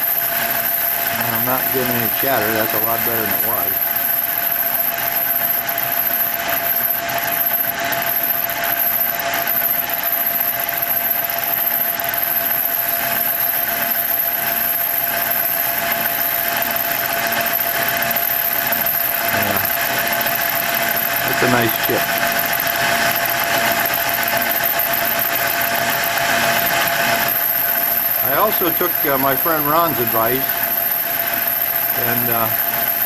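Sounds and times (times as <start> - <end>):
constant whine: 0.0 - 33.0
metal lathe running: 0.0 - 33.0.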